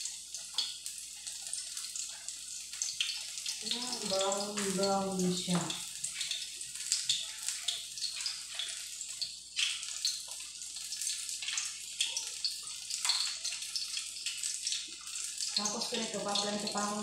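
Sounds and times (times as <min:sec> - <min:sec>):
fritters frying in hot oil: 0:00.0 - 0:17.0.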